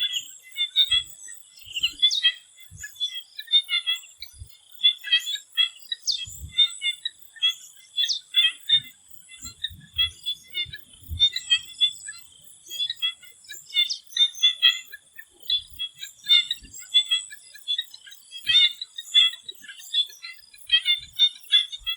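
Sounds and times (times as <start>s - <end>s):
frogs calling: 0.0s - 21.9s.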